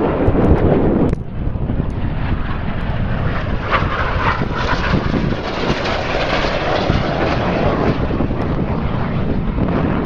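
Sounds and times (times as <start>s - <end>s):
jet aircraft flying past: 0.0s - 10.0s.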